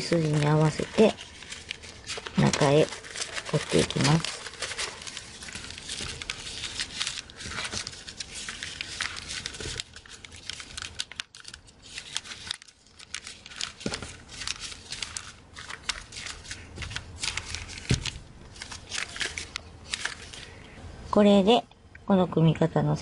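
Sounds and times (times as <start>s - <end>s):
paper rustling and crinkling: 0.0s - 20.7s.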